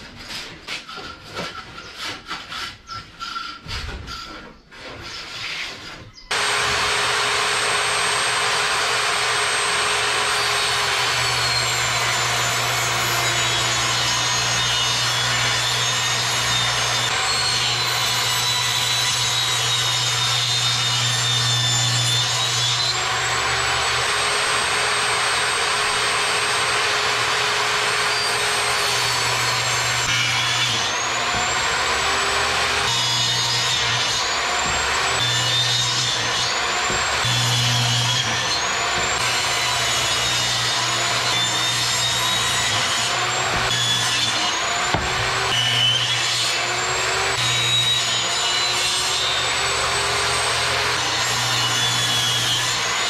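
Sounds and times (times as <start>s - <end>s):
circular saw cutting board: 0.0s - 53.0s.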